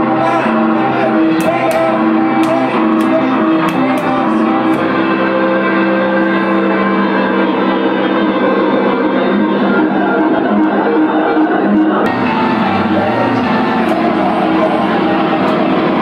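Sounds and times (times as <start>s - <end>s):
electric guitar notes: 0.0s - 16.0s.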